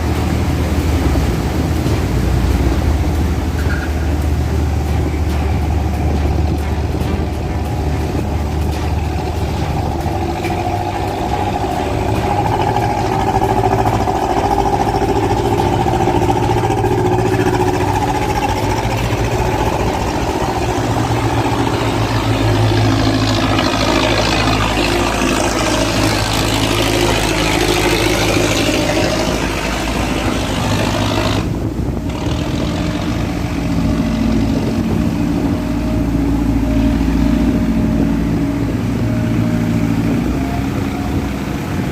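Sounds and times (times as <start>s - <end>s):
boat engines running: 0.0s - 41.9s.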